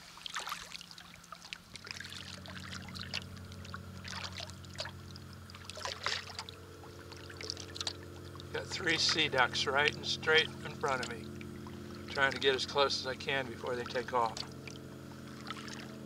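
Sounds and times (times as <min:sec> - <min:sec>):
low hum: 0:00.0 - 0:16.0
paddle strokes splashing water: 0:00.0 - 0:16.0.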